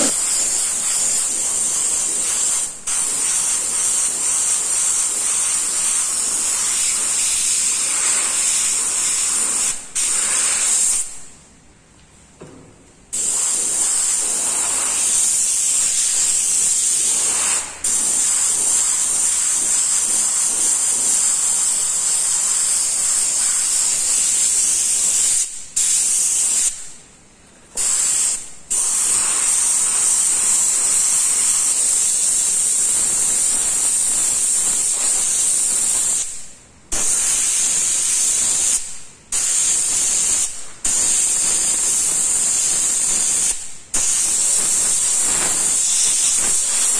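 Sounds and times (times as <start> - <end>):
airbrush hissing: 0.0 - 11.1, 13.2 - 26.9, 27.8 - 46.9.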